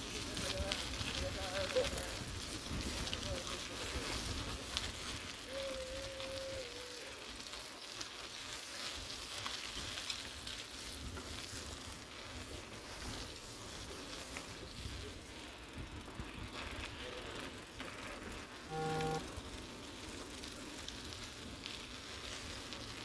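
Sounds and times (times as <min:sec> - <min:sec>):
bike tyres hissing on wet road: 0:00.0 - 0:23.0.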